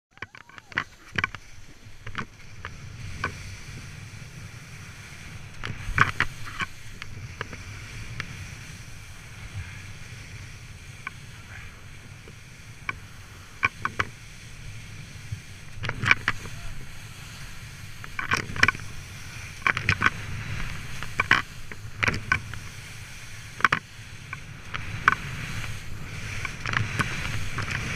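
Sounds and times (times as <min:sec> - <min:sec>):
wind on camera: 0:00.1 - 0:27.9
skis sliding over snow: 0:00.2 - 0:27.9.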